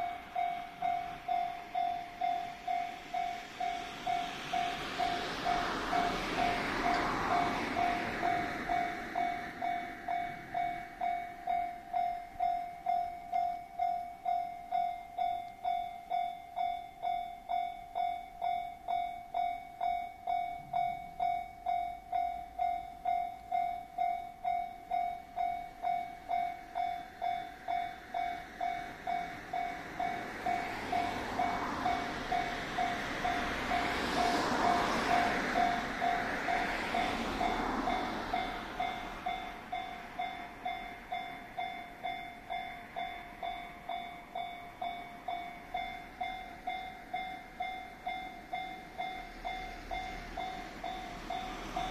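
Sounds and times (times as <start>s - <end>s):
approaching train rushing: 0.0s - 51.9s.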